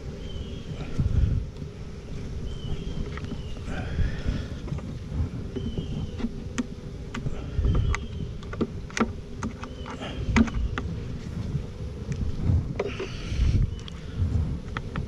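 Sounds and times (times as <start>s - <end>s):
bees humming: 0.0s - 15.0s
wind rumbling on microphone: 0.0s - 15.0s.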